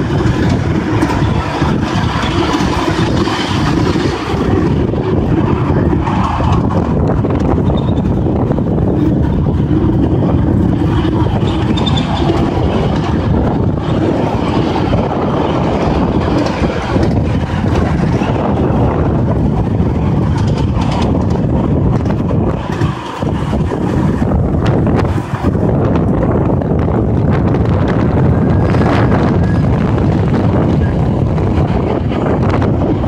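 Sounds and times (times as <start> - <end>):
miniature train rumbling on rails: 0.0 - 33.0.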